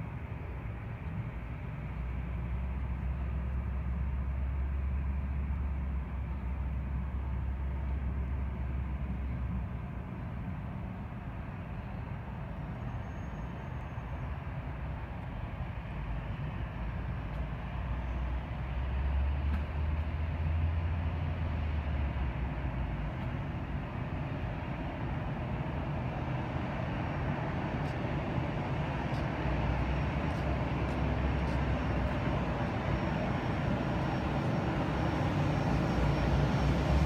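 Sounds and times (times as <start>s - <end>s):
jet engines idling: 0.0s - 37.0s.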